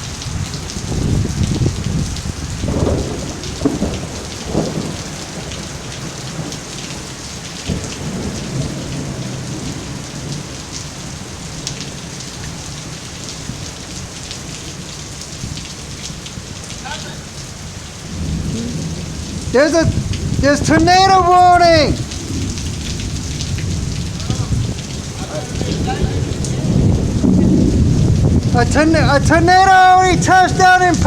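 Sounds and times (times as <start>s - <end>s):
low thunder rumbling: 0.0s - 13.8s, 14.4s - 31.0s
heavy rain pattering: 0.0s - 31.0s
wind: 0.0s - 31.0s.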